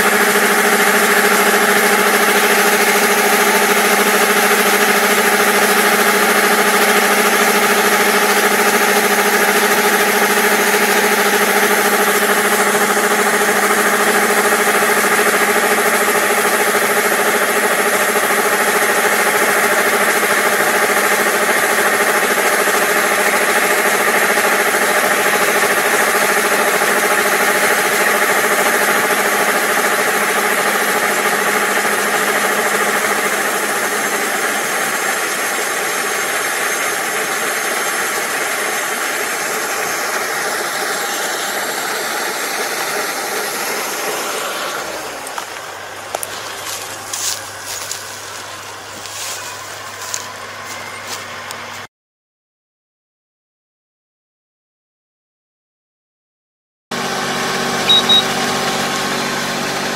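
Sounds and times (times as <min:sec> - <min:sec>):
combine harvester diesel engine: 0:00.0 - 0:51.9, 0:57.0 - 0:59.9.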